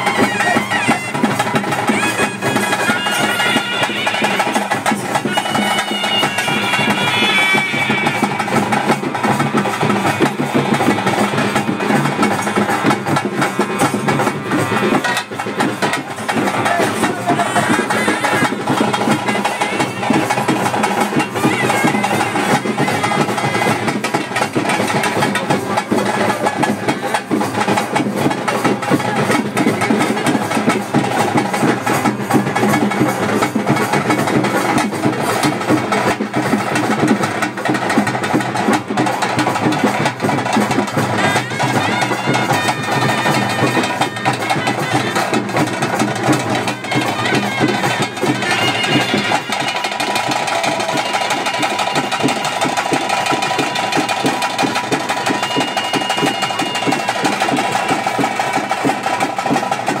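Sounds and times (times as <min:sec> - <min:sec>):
rapid dense drumming: 0:00.0 - 1:00.0.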